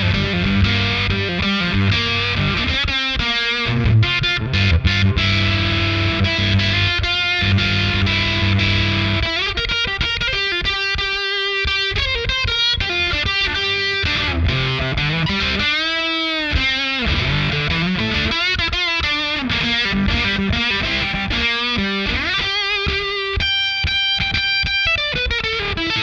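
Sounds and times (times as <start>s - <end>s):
overdriven electric guitar: 0.0s - 26.0s.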